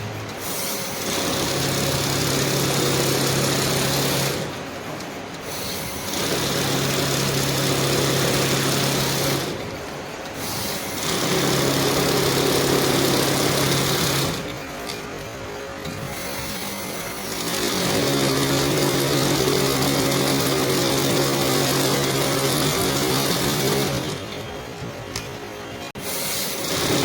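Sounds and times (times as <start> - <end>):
banknote counting machine running: 0.0 - 25.1, 25.9 - 27.0.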